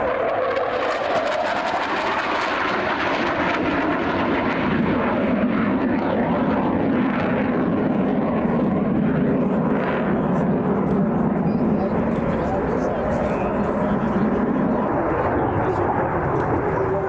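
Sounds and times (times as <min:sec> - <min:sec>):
aircraft engine flying by: 0:00.0 - 0:17.0.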